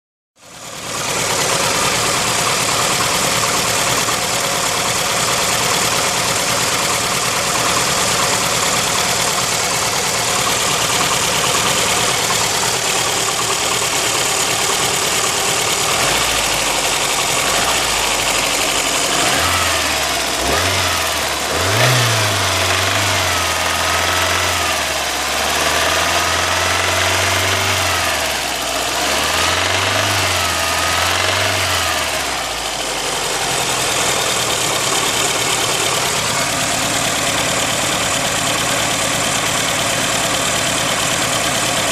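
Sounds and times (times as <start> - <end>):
engine knock: 0.4 - 41.9
car engine running: 0.6 - 41.9.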